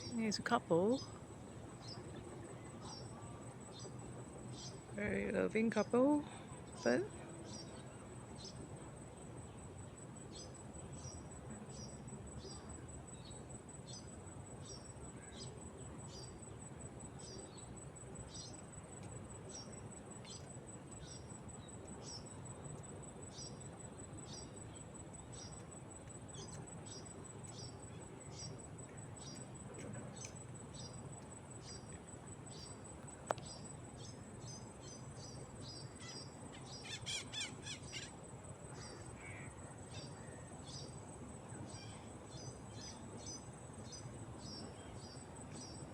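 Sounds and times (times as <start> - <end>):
high-pitched insect trill: 8.4 - 45.9.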